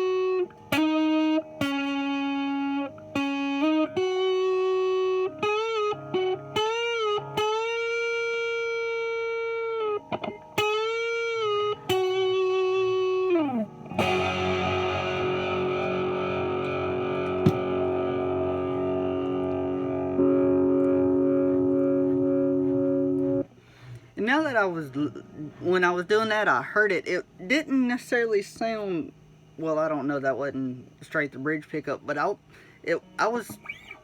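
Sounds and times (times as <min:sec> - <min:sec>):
electric guitar single notes with bends: 0:00.0 - 0:30.1, 0:32.0 - 0:34.0
electric guitar chords ringing: 0:00.0 - 0:34.0.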